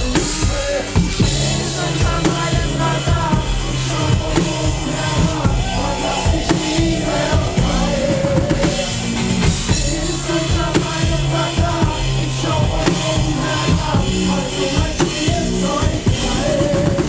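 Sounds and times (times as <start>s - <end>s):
drum kit beat: 0.0s - 17.0s
live band music: 0.0s - 17.0s.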